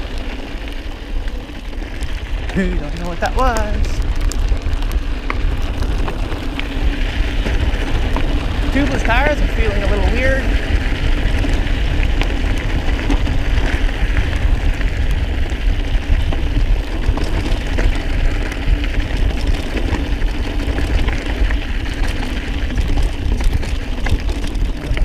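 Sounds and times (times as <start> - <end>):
bike clicking and rattling: 0.0 - 25.0
bike tyres crunching on gravel: 0.0 - 25.0
wind buffeting microphone: 0.0 - 25.0.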